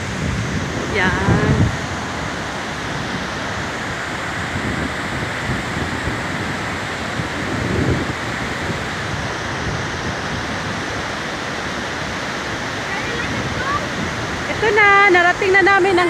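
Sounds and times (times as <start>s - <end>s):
waterfall rushing over rocks: 0.0s - 16.0s
wind buffeting microphone: 0.0s - 16.0s.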